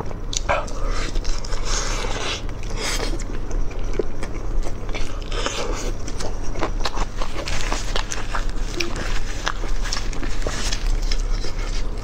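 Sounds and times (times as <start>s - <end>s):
man biting and chewing: 0.0s - 12.0s.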